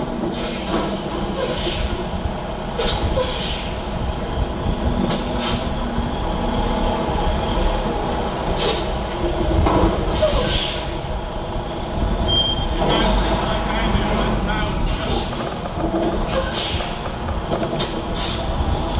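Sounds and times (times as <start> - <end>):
diesel truck engine rumble: 0.0 - 18.9.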